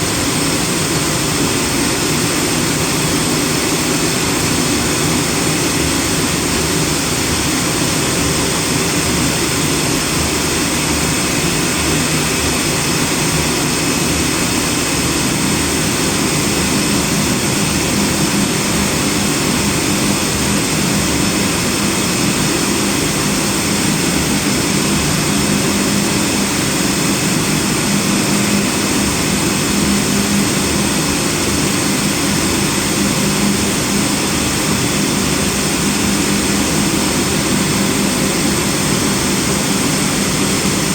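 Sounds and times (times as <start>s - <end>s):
cnc cutter machine noise: 0.0s - 40.9s.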